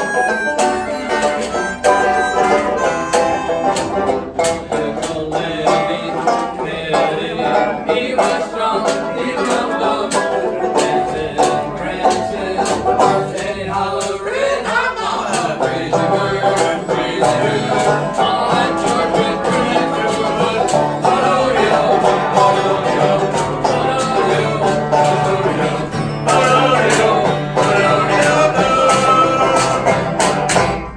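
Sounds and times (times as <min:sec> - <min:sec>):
person singing: 0:00.0 - 0:30.7
jug band playing country tune: 0:00.0 - 0:30.9.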